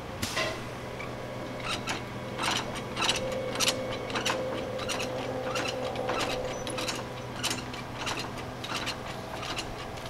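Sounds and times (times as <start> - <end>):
low hum: 0.0 - 10.0
chain and ratchet clicking: 1.6 - 10.0.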